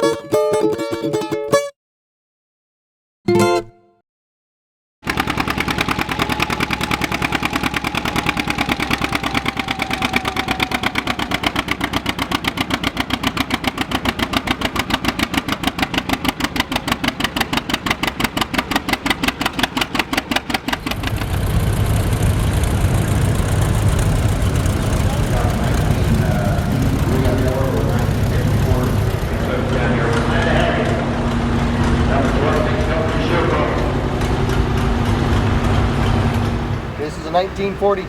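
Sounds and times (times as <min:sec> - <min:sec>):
tractor engine popping exhaust: 0:05.0 - 0:38.0
low engine rumble: 0:05.1 - 0:38.0.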